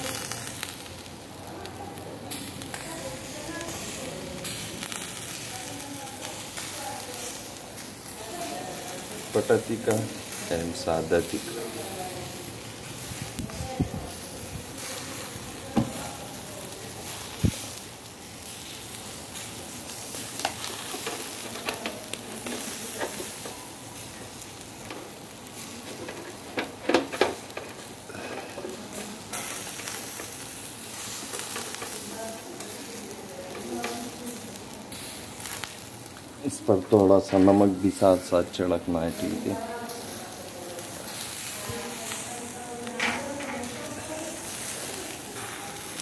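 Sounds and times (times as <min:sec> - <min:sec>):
meat sizzling over charcoal: 0:00.0 - 0:46.0.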